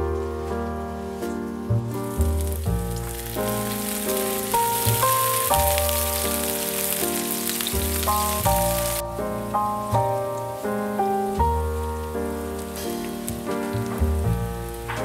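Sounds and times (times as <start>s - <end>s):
background music with bass line: 0.0s - 15.0s
onion sizzling in hot oil: 2.0s - 15.0s.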